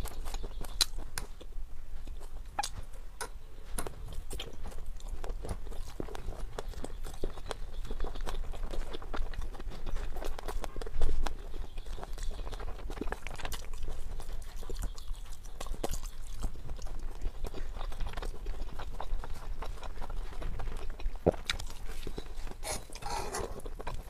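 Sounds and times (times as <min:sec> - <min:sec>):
person chewing with mouth clicks: 0:00.0 - 0:24.0.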